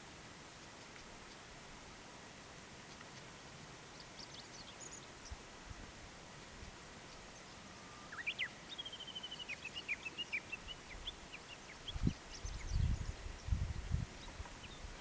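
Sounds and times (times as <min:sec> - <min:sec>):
songbird singing: 0:00.0 - 0:01.6, 0:02.7 - 0:15.0
faint outdoor hush: 0:00.0 - 0:15.0.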